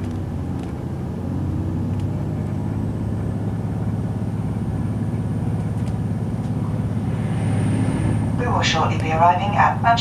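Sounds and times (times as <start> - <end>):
diesel engine drone: 0.0 - 10.0
train rumble: 0.0 - 10.0.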